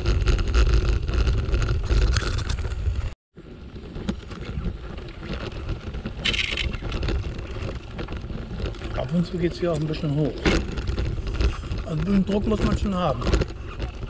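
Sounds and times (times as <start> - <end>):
bike tyres rolling on gravel: 0.0 - 14.0
wind noise on microphone: 0.0 - 14.0.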